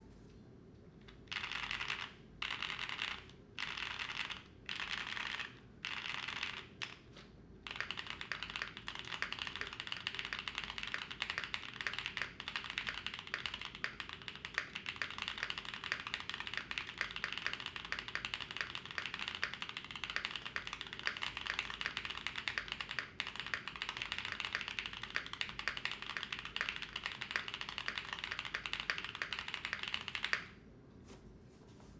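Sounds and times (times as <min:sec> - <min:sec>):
mechanical keyboard typing: 0:01.3 - 0:07.0, 0:07.6 - 0:30.6.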